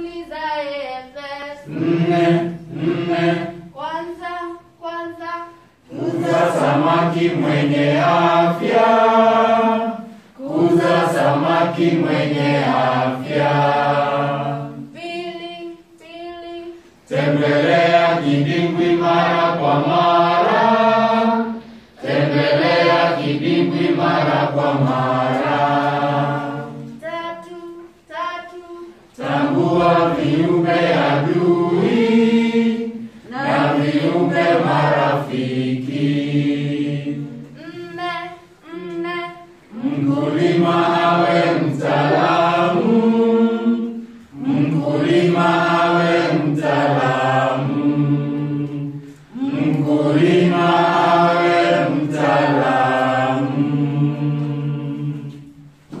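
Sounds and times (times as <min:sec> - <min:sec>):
group singing an anthem: 0:01.5 - 0:04.2, 0:05.1 - 0:27.4, 0:29.0 - 0:56.0.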